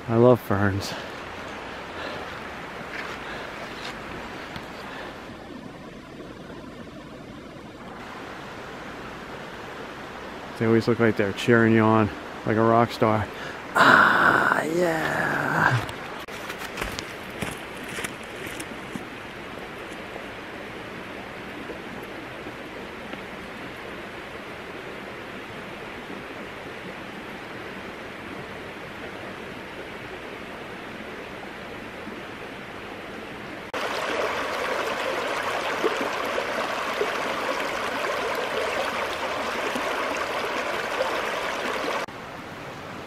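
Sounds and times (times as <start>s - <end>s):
stream rushing: 0.0s - 6.8s, 7.8s - 43.0s.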